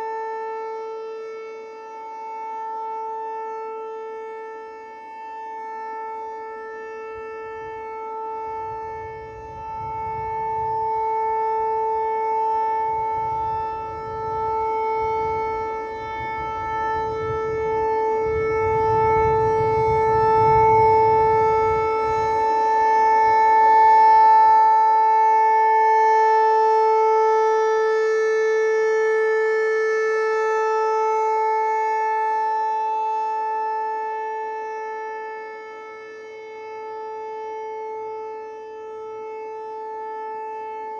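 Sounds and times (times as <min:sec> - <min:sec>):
tornado warning siren: 0:00.0 - 0:40.9.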